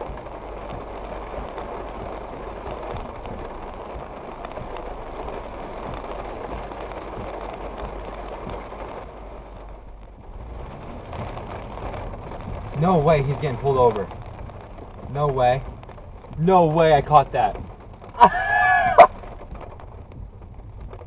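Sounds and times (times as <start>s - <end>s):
heavy rain on car roof: 0.0s - 21.0s.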